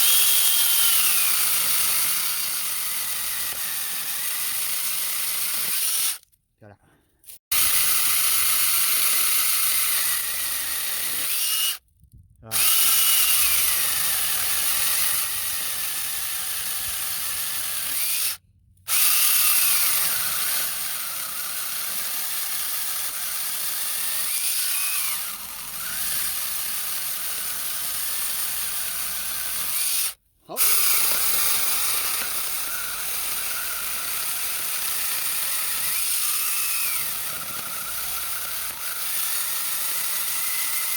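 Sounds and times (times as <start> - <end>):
cordless chainsaw running: 0.0 - 6.3, 7.2 - 11.8, 12.4 - 40.9.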